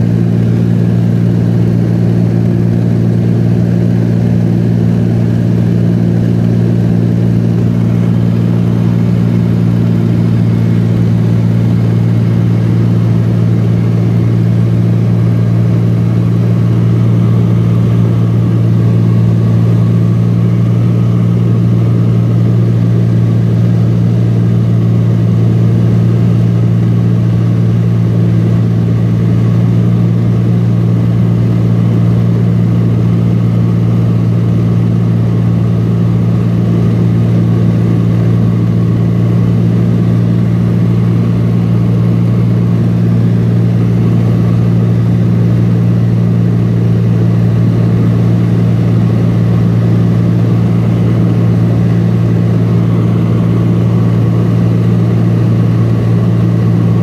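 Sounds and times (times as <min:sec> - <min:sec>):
propeller plane engine in cabin: 0:00.0 - 0:57.0.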